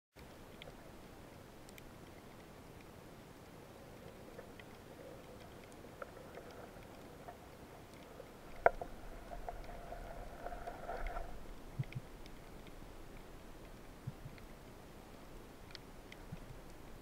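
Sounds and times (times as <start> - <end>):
faint underwater clicks and crackle: 0.1 - 17.0.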